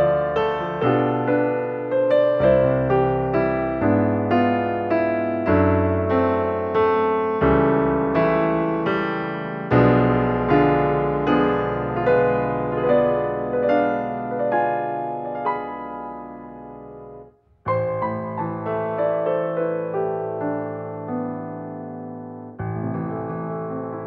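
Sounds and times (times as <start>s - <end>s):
slow gentle piano melody: 0.0s - 24.0s.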